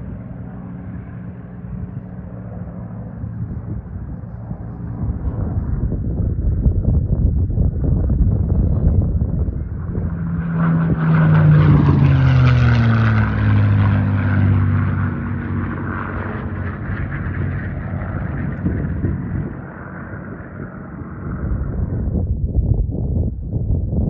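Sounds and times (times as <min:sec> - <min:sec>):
propeller plane flying overhead: 0:00.0 - 0:24.0.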